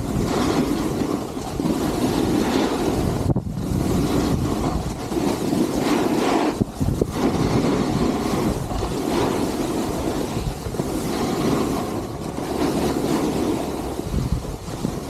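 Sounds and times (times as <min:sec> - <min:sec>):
skis running over snow: 0:00.0 - 0:15.0
wind rushing over microphone: 0:00.0 - 0:15.0.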